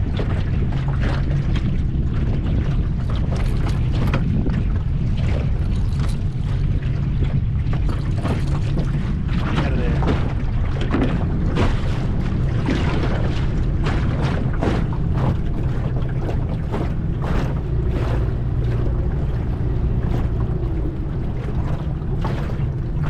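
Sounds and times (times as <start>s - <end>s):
outboard motor humming: 0.0s - 23.0s
wind buffeting microphone: 0.0s - 23.0s.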